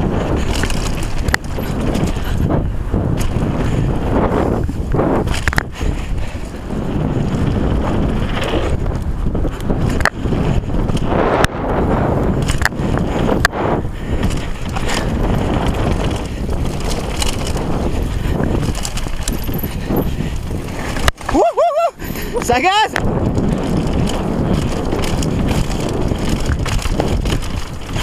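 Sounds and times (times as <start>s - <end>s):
bike rattling over bumps: 0.0s - 28.0s
tyres rushing on loose dirt: 0.0s - 28.0s
wind on microphone: 0.0s - 28.0s.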